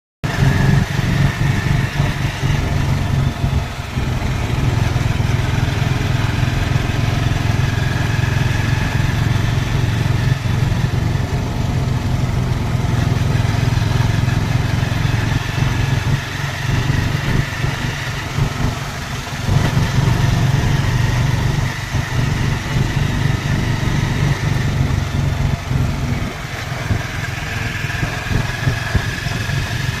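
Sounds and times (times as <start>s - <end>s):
motorcycle engine running: 0.2s - 30.0s.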